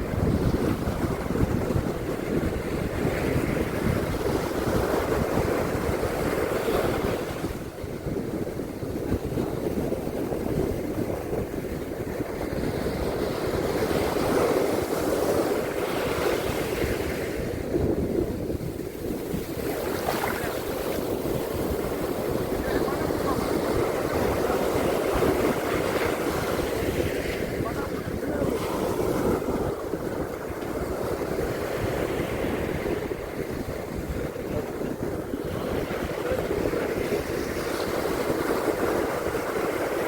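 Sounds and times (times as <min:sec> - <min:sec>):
ocean surf washing onto beach: 0:00.0 - 0:40.0
wind buffeting microphone: 0:00.0 - 0:40.0.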